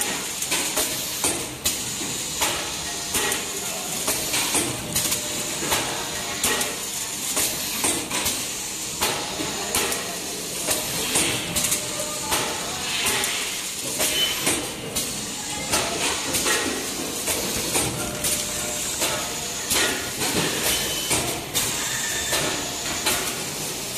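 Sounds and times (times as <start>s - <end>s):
machine mechanism clacks: 0.0s - 23.9s
packing machine hiss: 0.0s - 23.9s.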